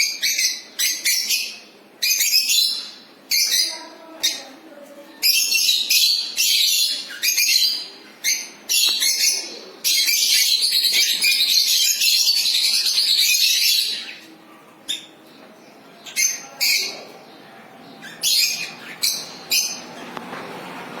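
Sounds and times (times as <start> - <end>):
lovebirds chirping and squawking: 0.0 - 20.6.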